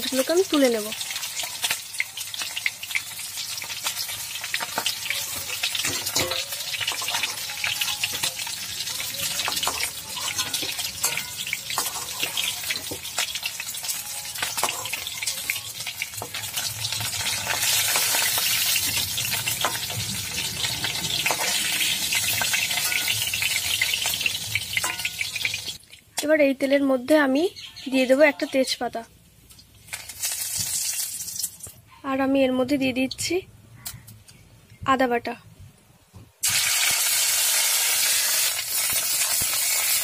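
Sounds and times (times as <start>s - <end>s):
oil sizzling and crackling in a wok: 0.0s - 26.3s, 29.4s - 31.8s, 36.4s - 40.0s.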